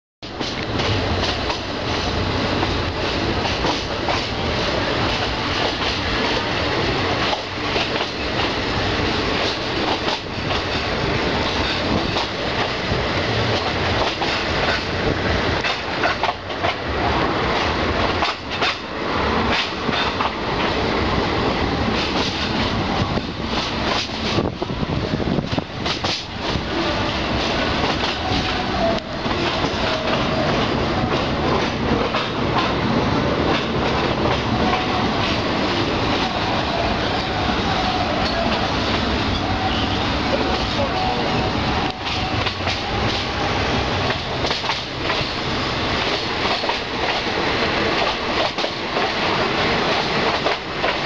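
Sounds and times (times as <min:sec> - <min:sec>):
wheels clacking over rail joints: 0:00.2 - 0:24.7, 0:25.4 - 0:51.0
train rumble and rushing air: 0:00.2 - 0:51.0.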